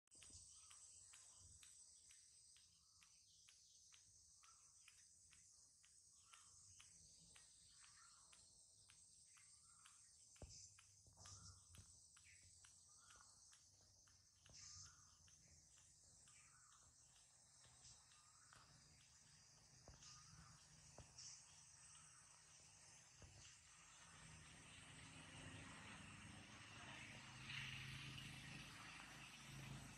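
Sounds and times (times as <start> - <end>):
crickets chirring: 0.1 - 29.9.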